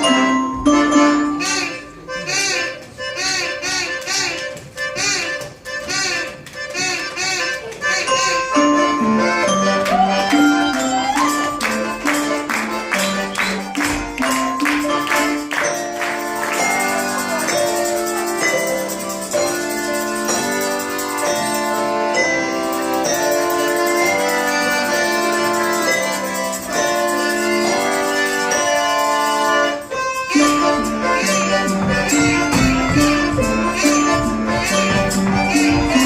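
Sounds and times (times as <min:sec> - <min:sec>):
folk instrumental ensemble: 0:00.0 - 0:36.0.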